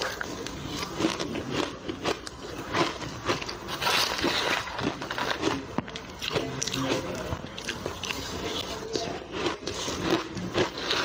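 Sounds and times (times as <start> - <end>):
crushed ice crunching when chewed: 0.0 - 11.0.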